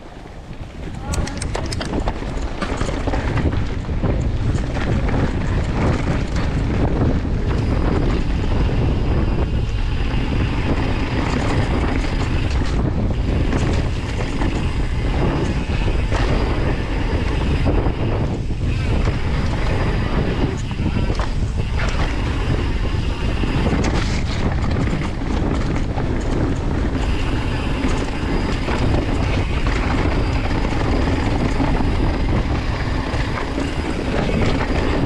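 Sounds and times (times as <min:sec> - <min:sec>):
tyres running over dirt: 0:00.0 - 0:35.0
wind buffeting microphone: 0:00.0 - 0:35.0
bike rattling and knocking: 0:00.6 - 0:35.0.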